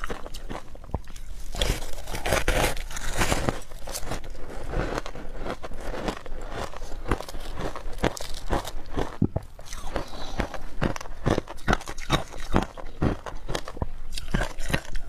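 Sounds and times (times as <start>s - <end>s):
ice crunching being chewed: 0.0s - 15.0s.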